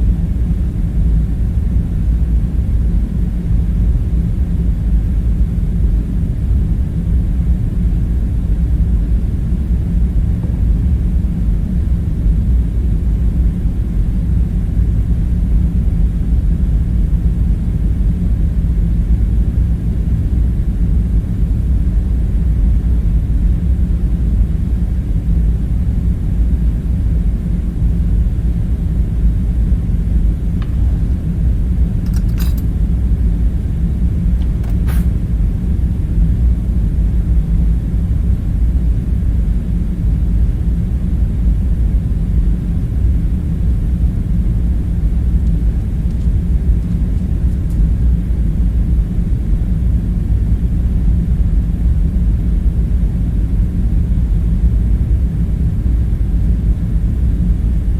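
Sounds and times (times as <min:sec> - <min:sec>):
low rumbling hum: 0:00.0 - 0:57.9.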